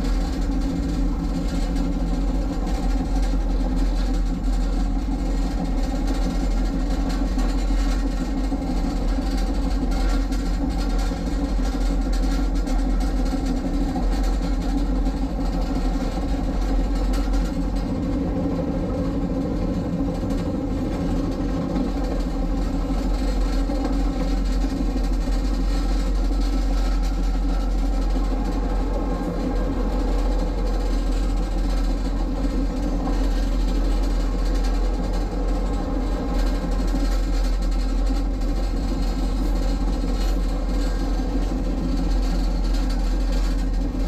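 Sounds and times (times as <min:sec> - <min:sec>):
train engine drone: 0:00.0 - 0:44.0
train rumbling on track: 0:00.0 - 0:44.0.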